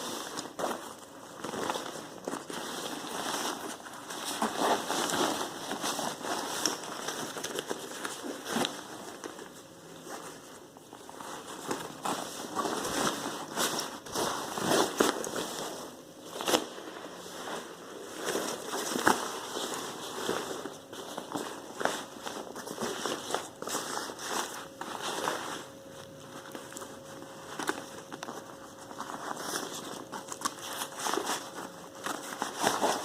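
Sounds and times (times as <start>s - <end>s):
fabric rustling and crinkling: 0.0s - 33.0s.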